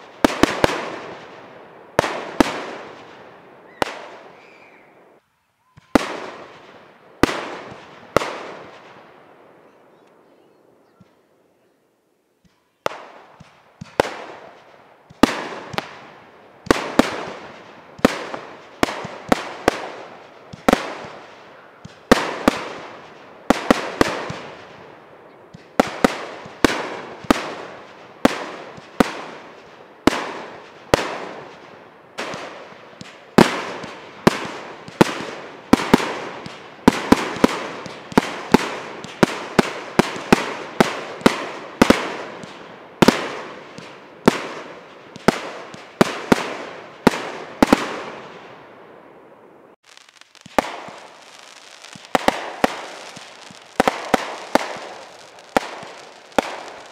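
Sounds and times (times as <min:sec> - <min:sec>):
fireworks bangs with rolling echo: 0:00.0 - 0:05.2, 0:05.8 - 0:09.8, 0:12.8 - 0:56.9.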